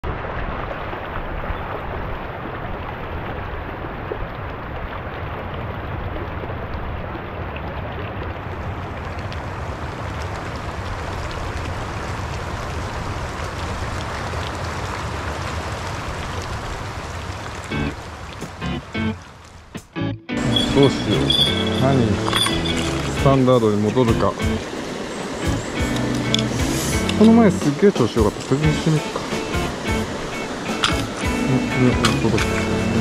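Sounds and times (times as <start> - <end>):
stream water flowing: 0.0 - 33.0.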